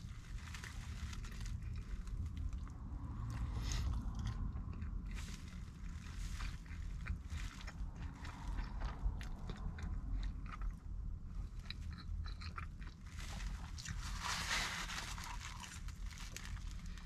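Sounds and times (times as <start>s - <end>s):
low steady hum: 0.0s - 17.0s
person chewing pizza: 0.3s - 17.0s.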